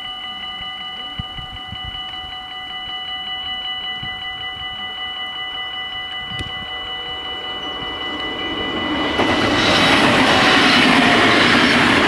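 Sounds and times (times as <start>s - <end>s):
level crossing warning bells ringing: 0.0s - 12.0s.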